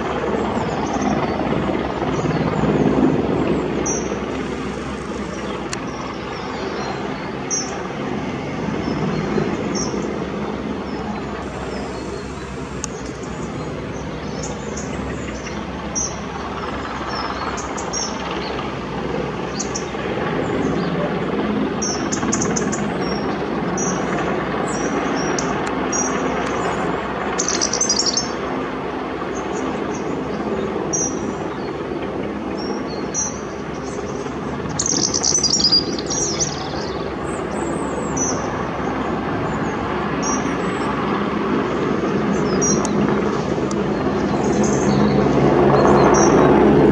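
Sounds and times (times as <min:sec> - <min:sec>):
distant helicopter hovering: 0:00.0 - 0:46.9
small birds chirping: 0:00.3 - 0:08.0, 0:08.8 - 0:18.7, 0:19.4 - 0:28.4, 0:29.3 - 0:46.7.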